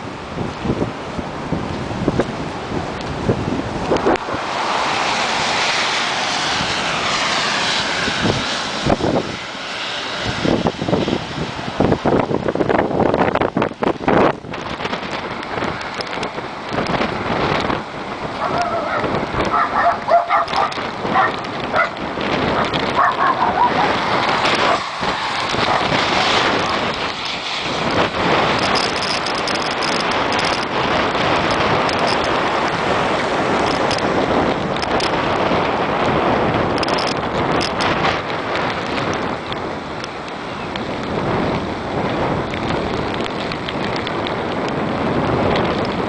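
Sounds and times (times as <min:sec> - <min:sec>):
cars passing on wet road: 0:00.0 - 0:46.0
steady rain: 0:00.0 - 0:46.0
wind on microphone: 0:00.0 - 0:46.0.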